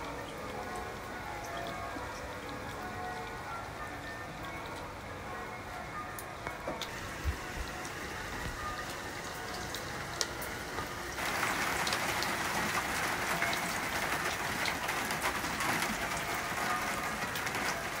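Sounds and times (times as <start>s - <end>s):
drips ticking on surfaces: 0.0s - 5.0s, 6.1s - 18.0s
heavy rain falling: 0.0s - 18.0s.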